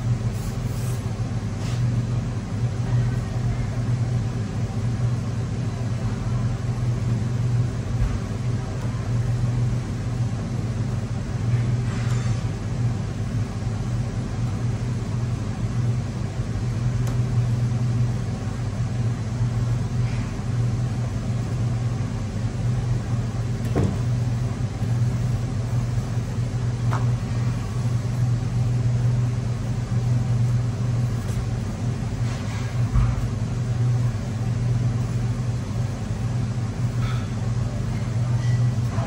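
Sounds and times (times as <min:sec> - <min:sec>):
kitchen machine hum: 0:00.0 - 0:39.0.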